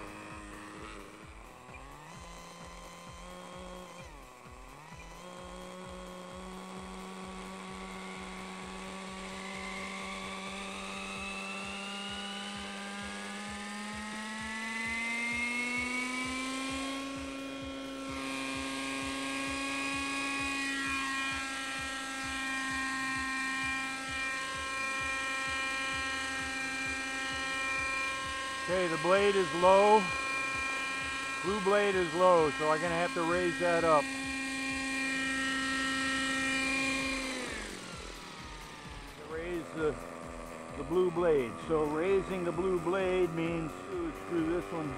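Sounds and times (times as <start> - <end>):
model helicopter engine and rotor: 0.0 - 44.9.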